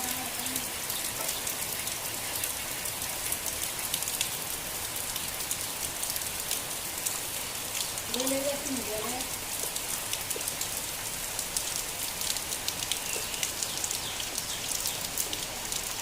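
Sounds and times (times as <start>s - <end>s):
raindrops ticking on a surface: 0.0s - 16.0s
steady rain: 0.0s - 16.0s.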